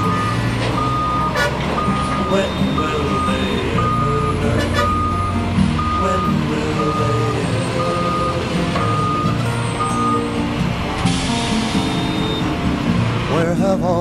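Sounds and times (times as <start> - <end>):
truck reversing alarm beeps: 0.0 - 13.0
truck engine running: 0.0 - 14.0.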